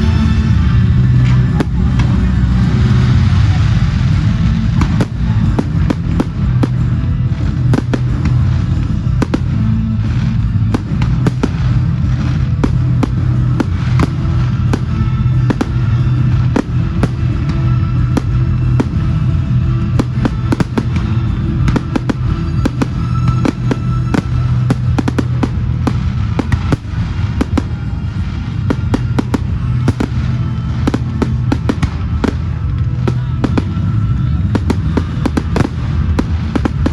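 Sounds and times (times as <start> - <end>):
fireworks bangs and crackles: 0.0 - 36.9
music playing: 0.0 - 36.9.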